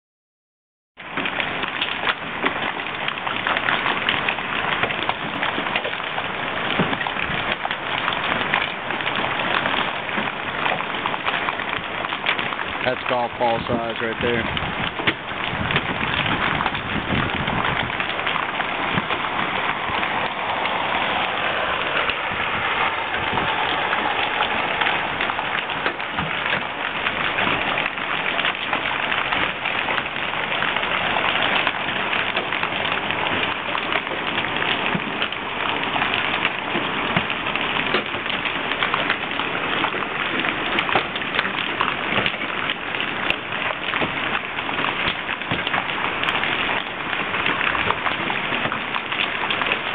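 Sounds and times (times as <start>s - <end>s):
hail and rain pelting the ground: 1.0s - 49.9s.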